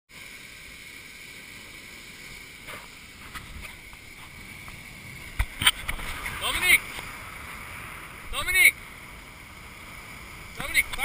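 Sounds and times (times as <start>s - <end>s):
faint electronic whine: 0.1s - 11.0s
sea noise: 0.1s - 11.0s
muffled wind: 0.4s - 11.0s.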